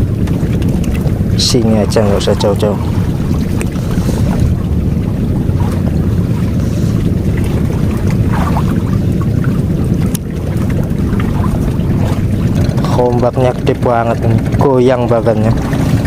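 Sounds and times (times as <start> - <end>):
big sea waves washing: 0.0 - 16.0
wind buffeting microphone: 0.0 - 16.0.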